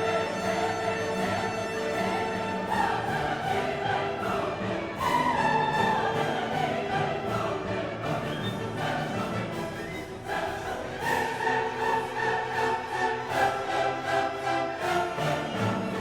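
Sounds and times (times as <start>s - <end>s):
orchestral music with choir: 0.0s - 16.0s.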